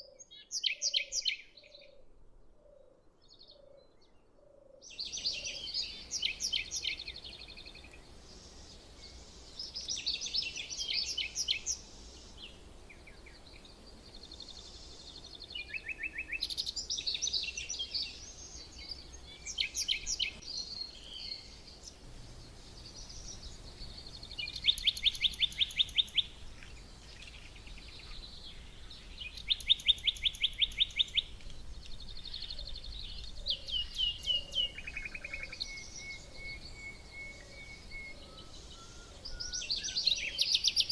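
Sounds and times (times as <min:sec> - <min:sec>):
songbirds singing trills: 0:00.0 - 0:40.9.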